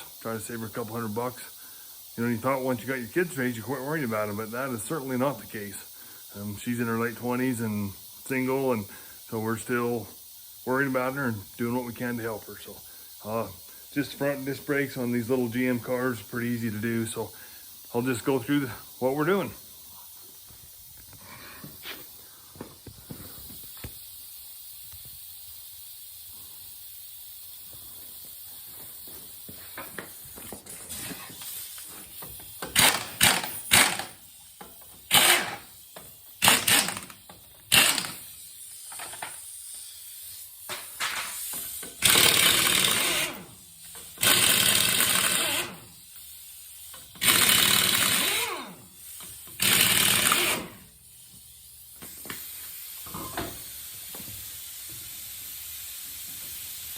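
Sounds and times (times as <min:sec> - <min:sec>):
pneumatic impact wrench bursts: 0:00.0 - 0:56.9.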